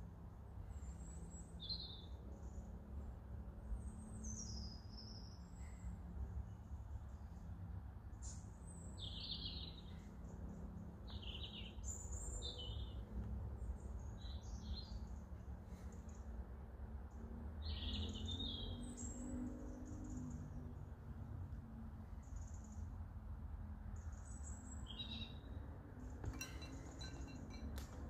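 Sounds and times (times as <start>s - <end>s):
songbirds chirping: 0.2s - 28.0s.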